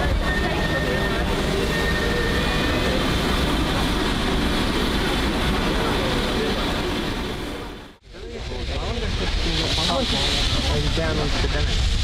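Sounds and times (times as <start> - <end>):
crowd chatter: 0.0 - 11.7.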